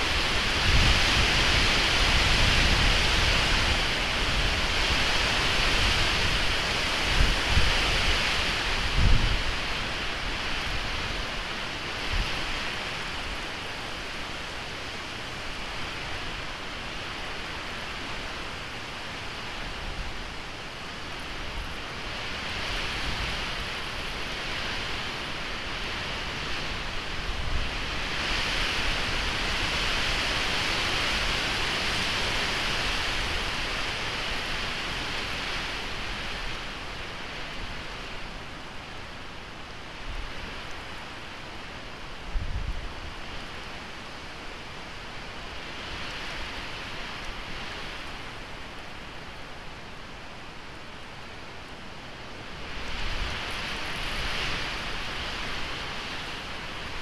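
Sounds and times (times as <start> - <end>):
wind rushing through pines: 0.0 - 57.0.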